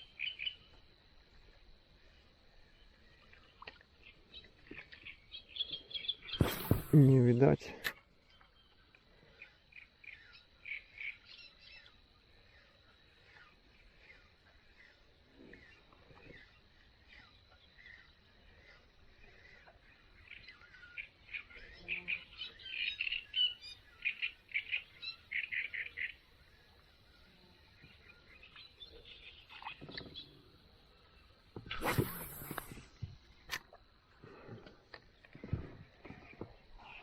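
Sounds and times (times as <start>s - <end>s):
bird chirping: 0.0s - 0.8s, 2.7s - 33.6s.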